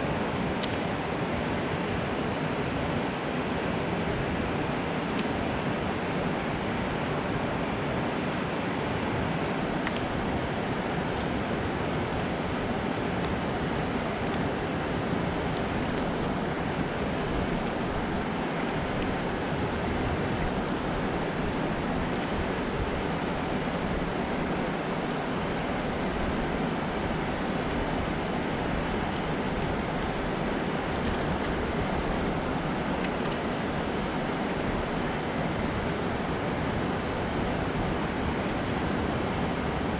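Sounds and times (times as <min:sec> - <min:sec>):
water rushing down a spillway: 0:00.0 - 0:39.9.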